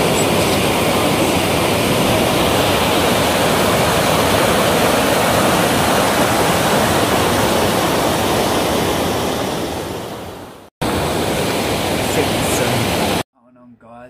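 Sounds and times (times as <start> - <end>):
water rushing over rapids: 0.0 - 13.2.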